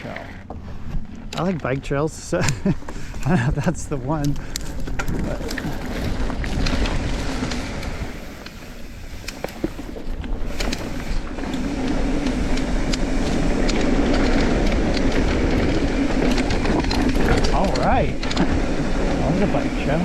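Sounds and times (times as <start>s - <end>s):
bike tyres rolling on dirt: 0.0s - 20.0s
bike rattling clicks: 0.1s - 19.9s.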